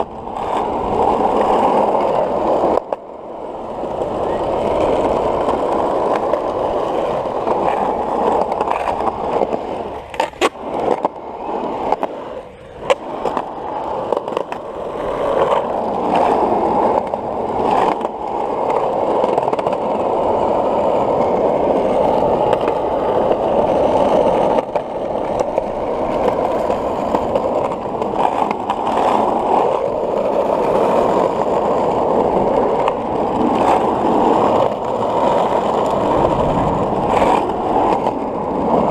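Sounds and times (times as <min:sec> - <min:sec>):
skateboard wheels rolling on concrete: 0:00.0 - 0:38.9.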